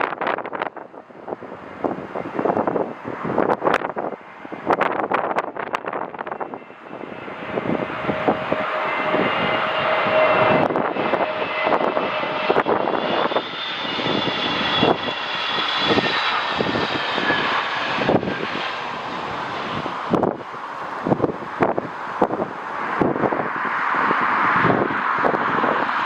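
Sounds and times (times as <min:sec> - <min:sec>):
jet engines passing: 0:00.0 - 0:26.0
wind buffeting microphone: 0:00.0 - 0:26.0.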